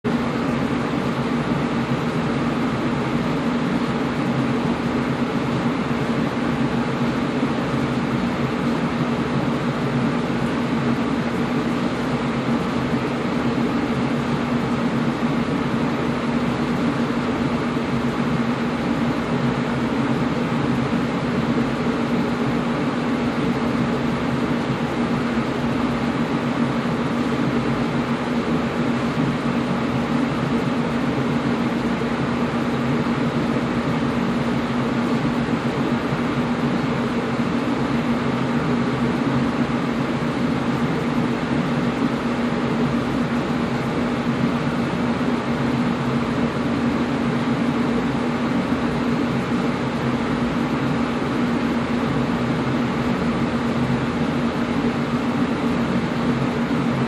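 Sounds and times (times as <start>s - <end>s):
air conditioner running: 0.0s - 57.0s.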